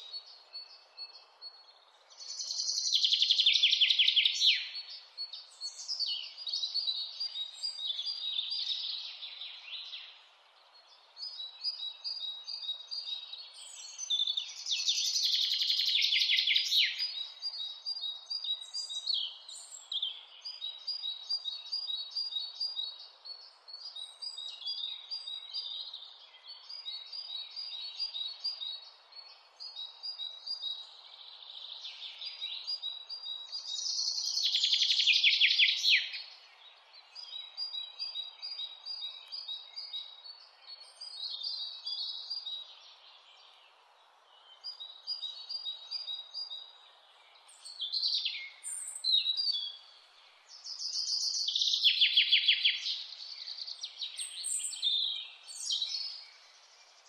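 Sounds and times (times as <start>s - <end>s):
birds chirping and trilling: 0.0s - 57.0s
faint steady hiss: 0.0s - 57.0s.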